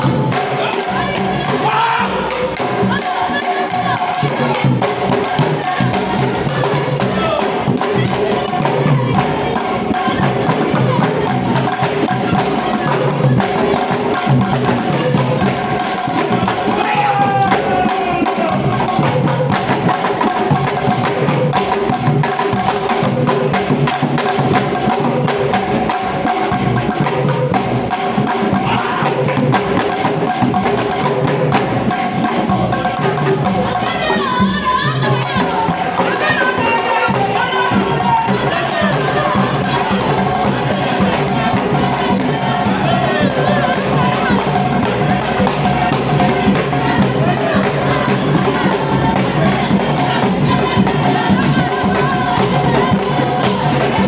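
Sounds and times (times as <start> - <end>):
drum and percussion music: 0.0 - 54.0.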